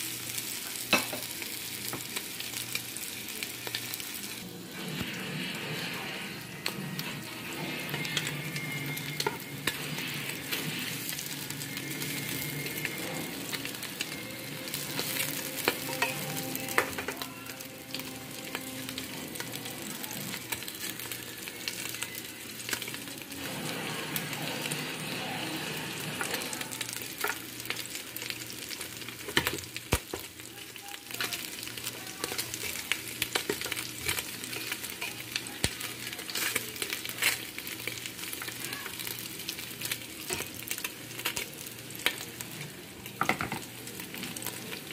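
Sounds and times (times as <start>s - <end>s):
meat sizzling in hot oil: 0.0s - 44.9s.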